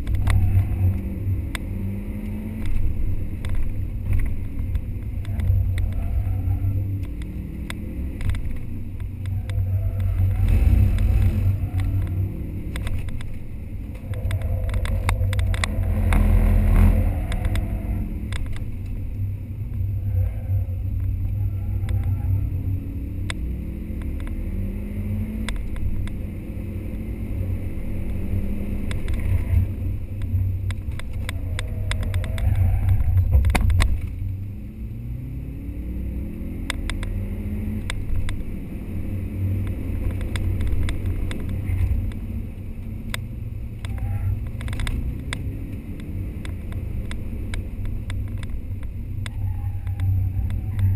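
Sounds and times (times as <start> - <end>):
car engine revving in cabin: 0.0 - 50.9
sharp clicks and rattles: 2.5 - 6.3, 6.9 - 22.4, 24.0 - 24.4, 25.4 - 26.3, 27.8 - 34.5, 36.6 - 38.5, 39.1 - 50.9.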